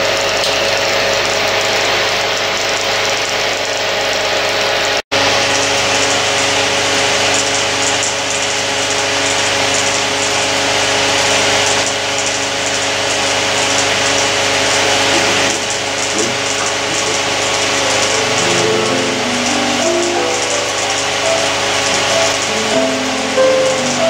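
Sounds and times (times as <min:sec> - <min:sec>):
film projector whirring: 0:00.0 - 0:24.0
steady hum: 0:00.0 - 0:24.0.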